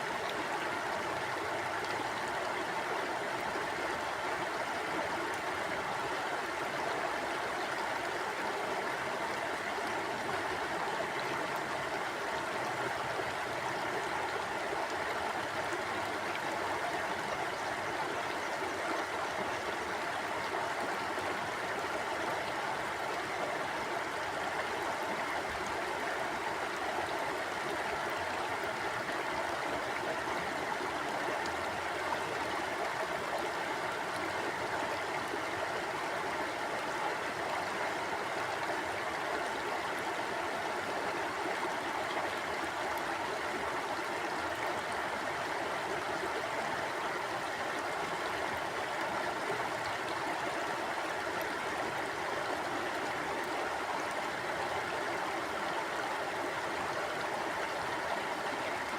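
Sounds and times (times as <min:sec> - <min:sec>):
river flowing over rocks: 0:00.0 - 0:58.9.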